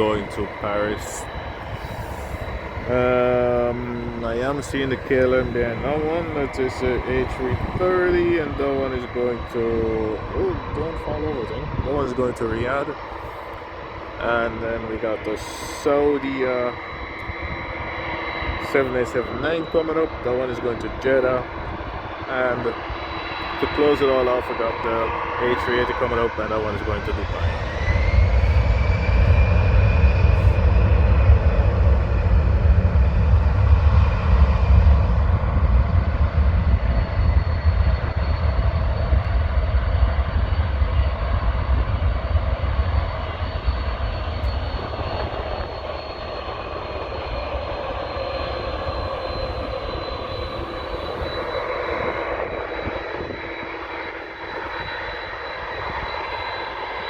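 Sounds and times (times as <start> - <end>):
high engine whine: 0.0 - 57.0
jet airliner taking off: 0.0 - 57.0.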